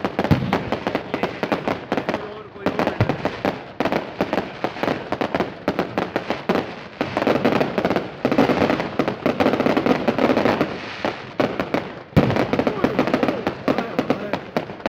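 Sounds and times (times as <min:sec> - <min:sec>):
fireworks cracking and popping: 0:00.0 - 0:14.9.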